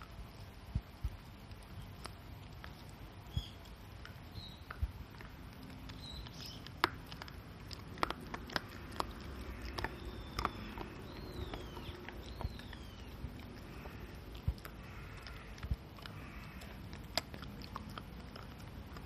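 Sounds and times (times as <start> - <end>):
dog gnawing a hard chew: 1.4 - 19.0.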